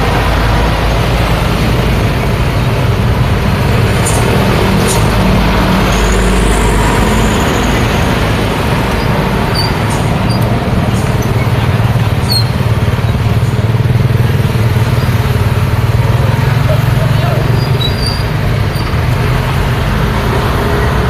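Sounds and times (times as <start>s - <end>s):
street traffic passing: 0.0s - 21.0s.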